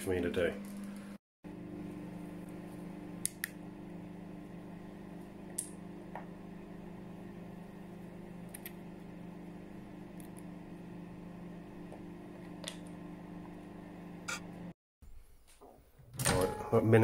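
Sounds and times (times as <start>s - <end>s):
microwave oven humming: 0.0s - 14.8s.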